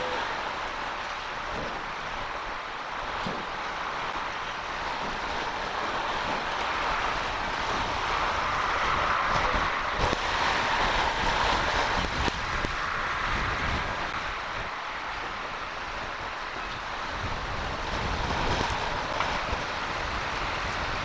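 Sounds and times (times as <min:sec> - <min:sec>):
storm wind roaring: 0:00.0 - 0:21.0.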